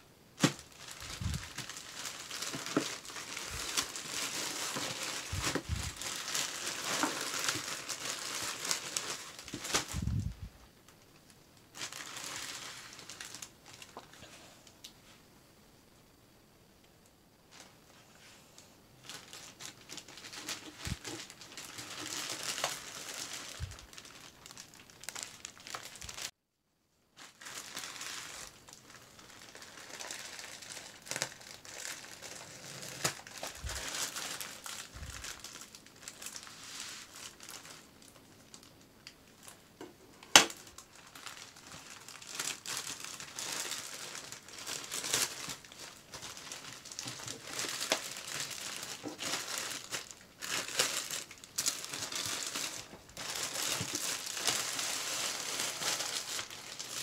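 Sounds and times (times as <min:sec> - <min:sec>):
plastic bag crinkling and tearing: 0:00.4 - 0:10.5, 0:11.6 - 0:14.4, 0:18.6 - 0:26.4, 0:27.2 - 0:39.6, 0:40.2 - 0:57.0.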